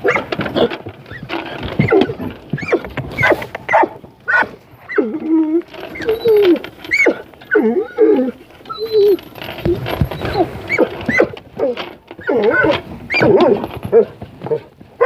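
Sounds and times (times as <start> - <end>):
puppies whining and yipping: 1.1 - 14.6.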